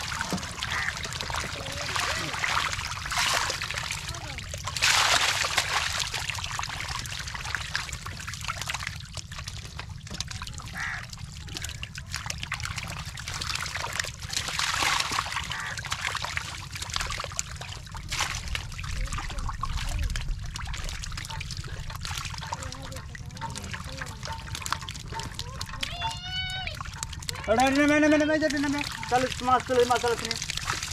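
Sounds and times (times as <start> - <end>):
mud and water squelching: 0.0 - 30.9.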